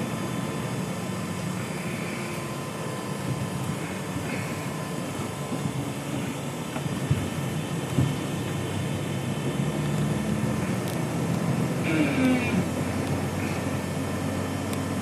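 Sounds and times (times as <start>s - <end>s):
vehicle cabin engine and tyre drone: 0.0s - 15.0s.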